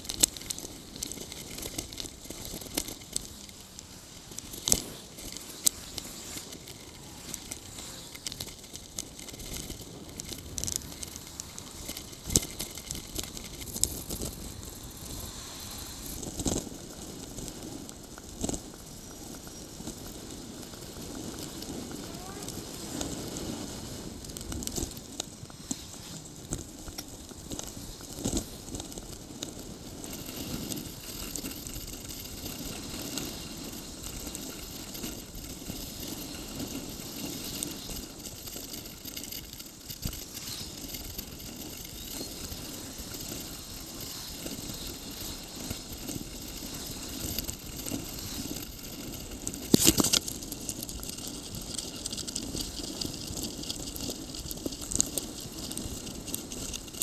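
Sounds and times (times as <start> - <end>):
bicycle rattling on road: 0.0 - 57.0.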